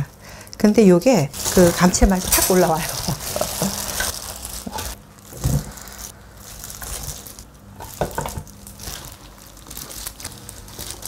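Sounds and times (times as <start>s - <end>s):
wet squishing and rustling: 1.3s - 11.0s.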